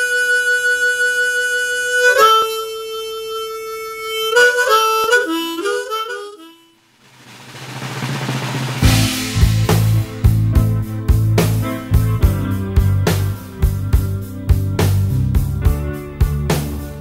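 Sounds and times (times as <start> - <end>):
blues harmonica: 0.0 - 6.8, 8.8 - 17.0.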